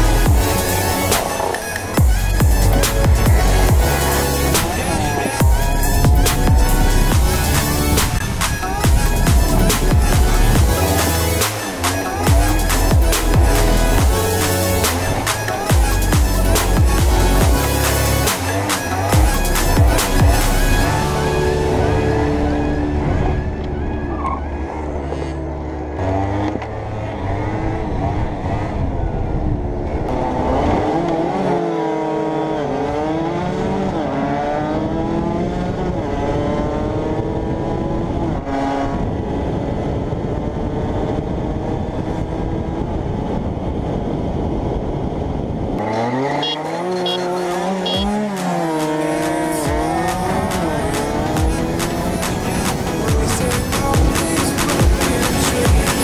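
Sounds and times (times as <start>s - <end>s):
motorbike engine revving: 0.0s - 43.0s, 45.8s - 56.0s.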